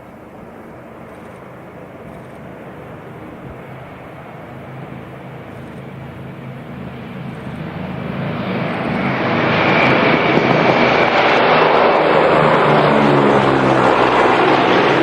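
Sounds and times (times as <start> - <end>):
radial piston aircraft engines running: 0.0 - 15.0.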